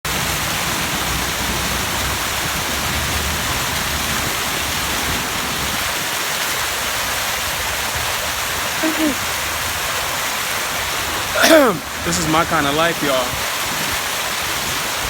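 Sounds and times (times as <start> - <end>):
waterfall rushing: 0.1 - 15.0.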